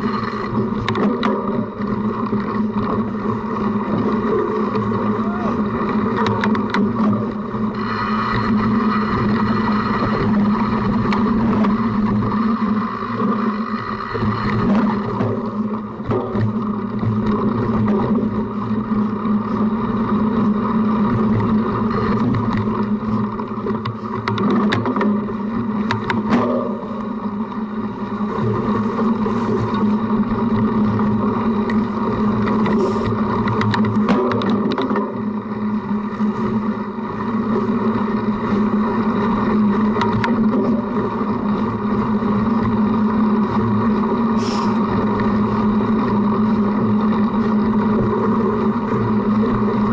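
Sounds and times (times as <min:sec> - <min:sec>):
bike rumbling and rattling: 0:00.0 - 0:49.9.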